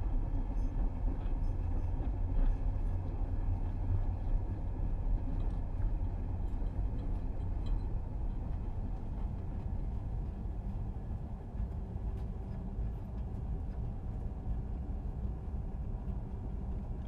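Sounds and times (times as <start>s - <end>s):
train running gear rumble: 0.0s - 17.0s.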